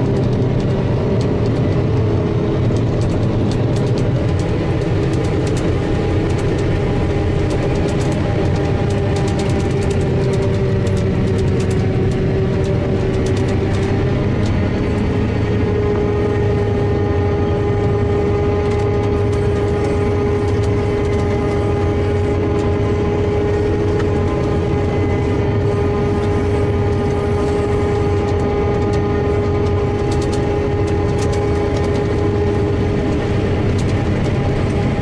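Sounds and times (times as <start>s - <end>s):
forage harvester engine droning: 0.0s - 35.0s
steady machine whine: 0.0s - 35.0s.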